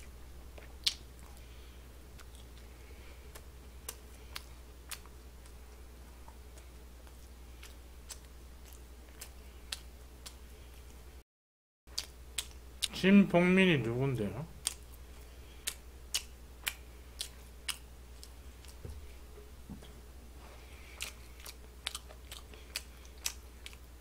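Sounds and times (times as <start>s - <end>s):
person chewing: 0.0s - 11.0s, 11.9s - 13.0s, 14.6s - 19.2s, 20.5s - 24.0s
low steady hum: 0.0s - 11.2s, 11.9s - 24.0s.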